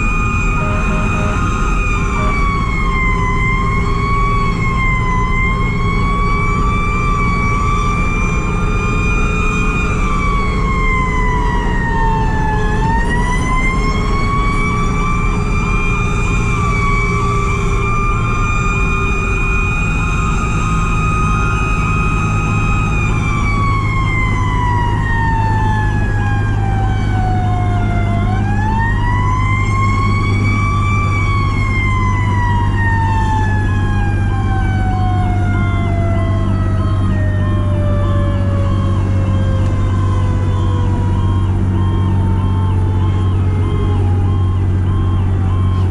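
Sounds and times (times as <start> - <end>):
diesel engine running: 0.0 - 45.9
electronic siren pulsing: 0.0 - 45.9
mechanical siren wailing: 0.0 - 45.9.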